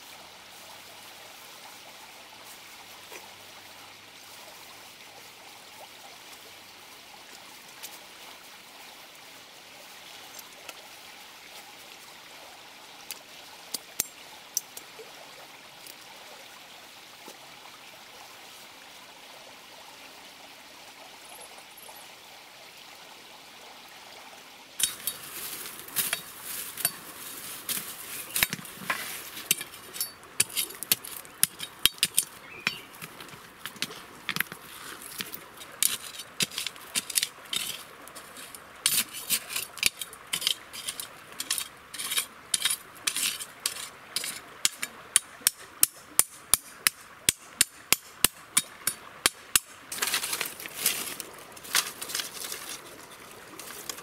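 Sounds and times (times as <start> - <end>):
rocky stream rushing: 0.0 - 22.7, 23.6 - 54.0.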